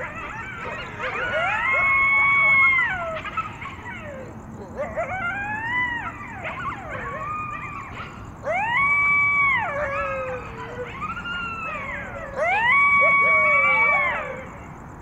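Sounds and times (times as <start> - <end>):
coyotes howling: 0.0 - 15.0.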